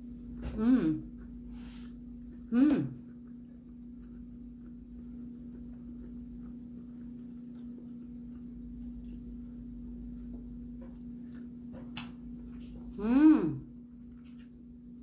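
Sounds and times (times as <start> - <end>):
steady low hum: 0.0 - 15.0
soft chewing and sucking clicks: 1.1 - 13.0, 13.9 - 15.0.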